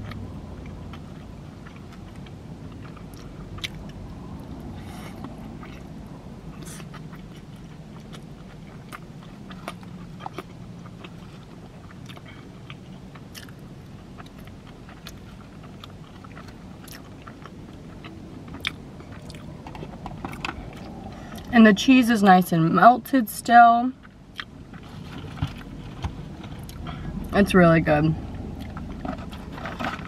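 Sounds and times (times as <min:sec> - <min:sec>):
chewing and mouth smacks: 0:00.0 - 0:21.6, 0:24.0 - 0:27.2, 0:28.3 - 0:30.0
steady low hum: 0:00.0 - 0:30.0.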